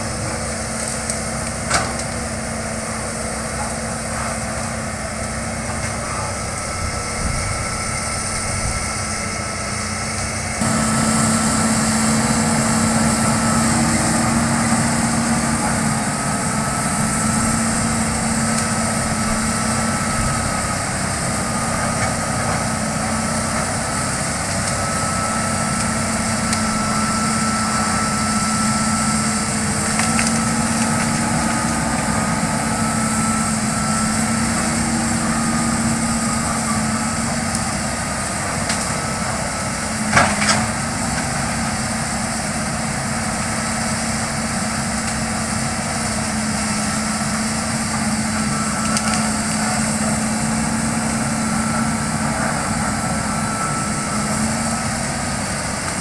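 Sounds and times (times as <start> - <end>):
excavator diesel engine whining: 0.0 - 56.0.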